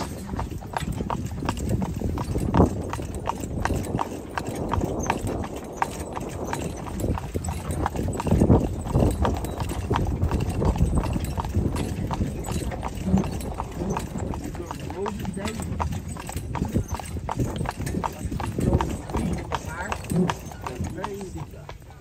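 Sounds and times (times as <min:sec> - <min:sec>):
horse hooves clip-clopping on pavement: 0:00.0 - 0:22.0.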